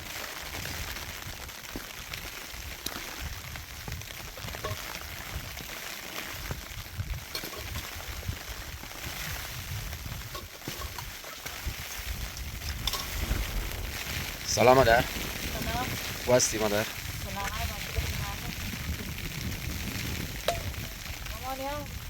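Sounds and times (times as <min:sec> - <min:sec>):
wind buffeting microphone: 0:00.6 - 0:22.0.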